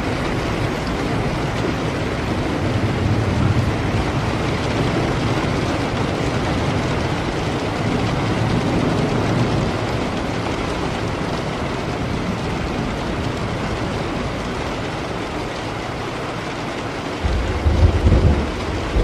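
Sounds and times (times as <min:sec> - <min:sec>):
steady rain: 0:00.0 - 0:19.0
thunder rumbling: 0:00.0 - 0:19.0.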